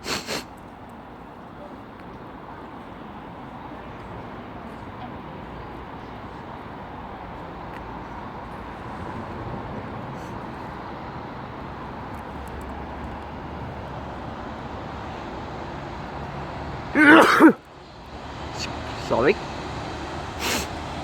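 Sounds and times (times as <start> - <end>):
track vehicle running: 0.0 - 21.0.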